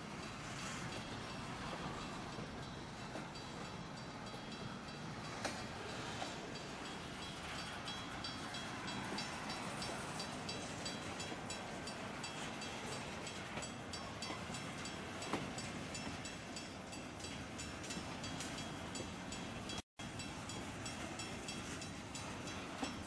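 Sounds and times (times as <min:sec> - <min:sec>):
steel wheels rumbling on rail: 0:00.0 - 0:23.0.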